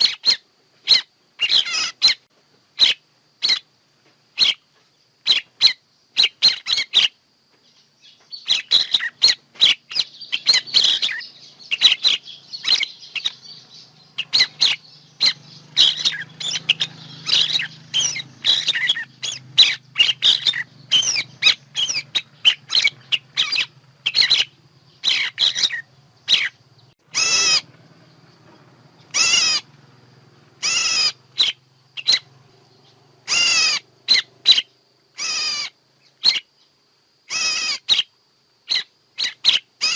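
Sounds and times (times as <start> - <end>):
birds chirping: 0.0 - 39.9
harsh bird calls: 0.0 - 39.9.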